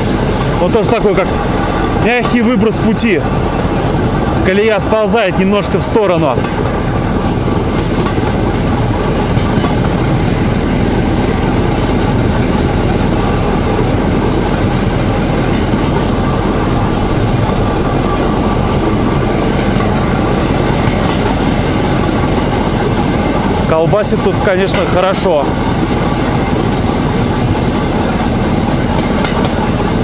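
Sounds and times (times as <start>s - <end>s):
rail vehicle engine running: 0.0s - 30.0s
wheels jolting over rails: 0.0s - 30.0s.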